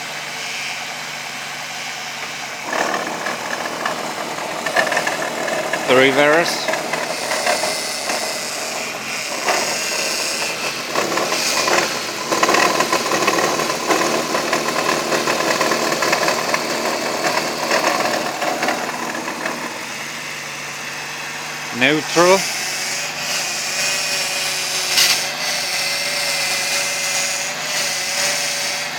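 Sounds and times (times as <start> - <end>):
car engine idling: 0.0 - 26.1.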